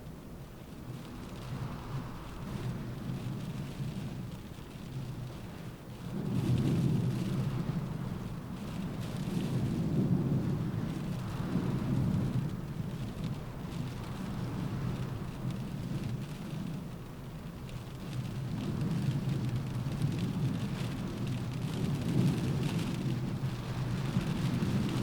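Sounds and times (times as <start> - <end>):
rain on a car roof: 0.0 - 25.0.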